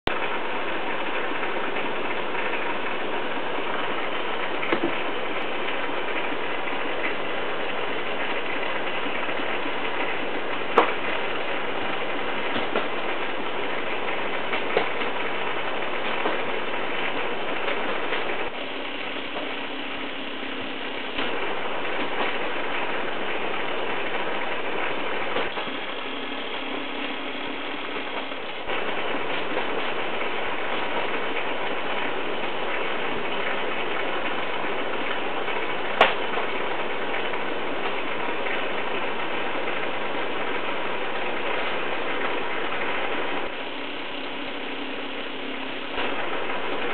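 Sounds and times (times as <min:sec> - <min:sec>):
aquarium bubbling and rattling: 0:00.1 - 0:46.9.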